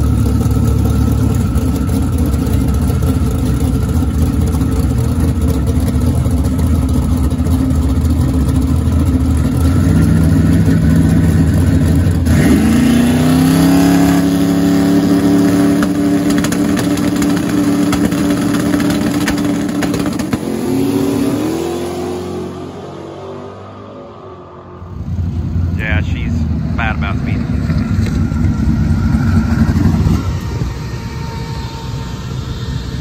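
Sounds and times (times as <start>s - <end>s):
truck engine rumbling and revving: 0.0s - 33.0s.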